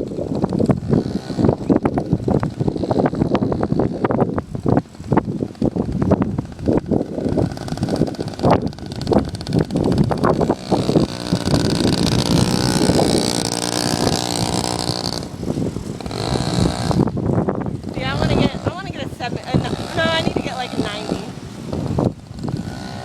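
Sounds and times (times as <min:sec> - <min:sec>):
small dirt bike engine running: 0:00.0 - 0:23.0.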